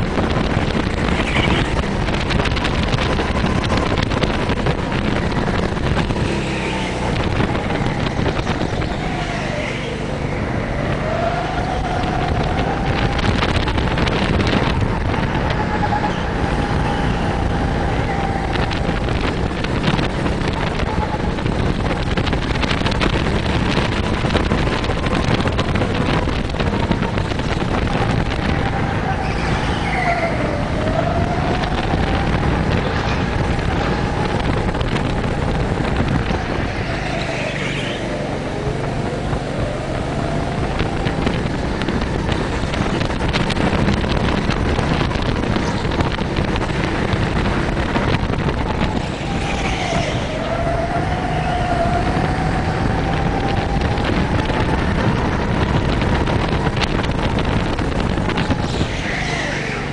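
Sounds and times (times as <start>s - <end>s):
go-kart engine revving: 0.0s - 59.9s
wind noise on microphone: 0.0s - 59.9s.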